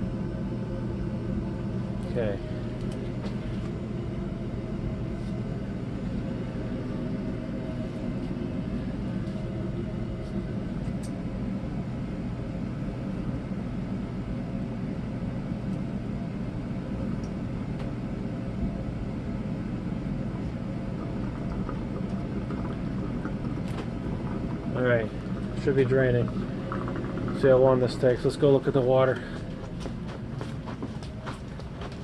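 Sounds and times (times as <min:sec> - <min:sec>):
low rumble with hum: 0:00.0 - 0:32.0.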